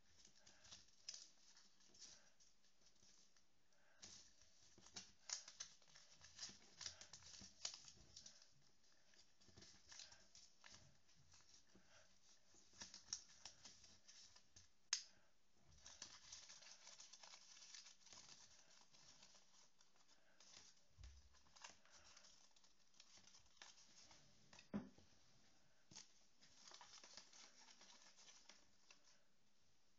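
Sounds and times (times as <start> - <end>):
paper rustling and crinkling: 0.0 - 14.9, 15.7 - 29.4.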